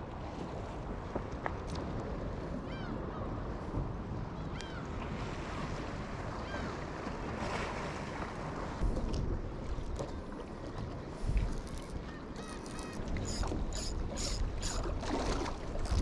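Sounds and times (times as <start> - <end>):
sea waves: 0.0 - 16.0.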